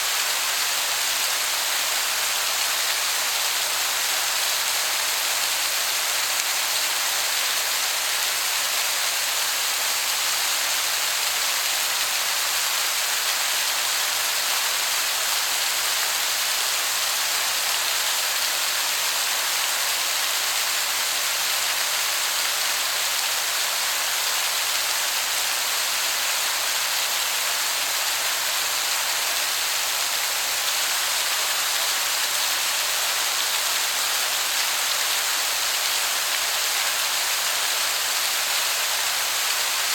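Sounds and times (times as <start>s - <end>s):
distant waterfall hiss: 0.0s - 39.9s.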